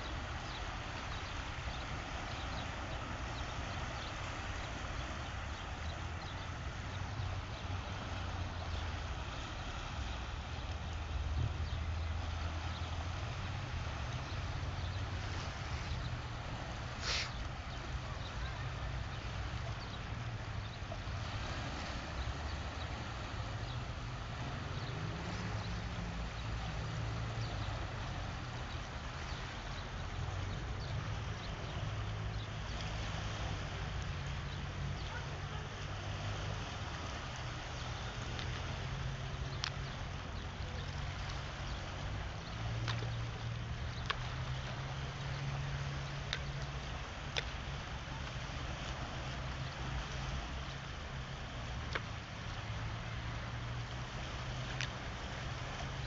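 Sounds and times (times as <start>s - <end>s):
sea water washing: 0.0s - 56.0s.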